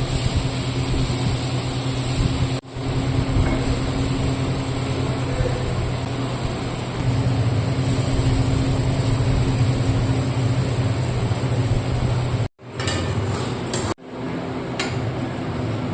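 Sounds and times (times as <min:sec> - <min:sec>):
machine humming and hissing: 0:00.0 - 0:15.9.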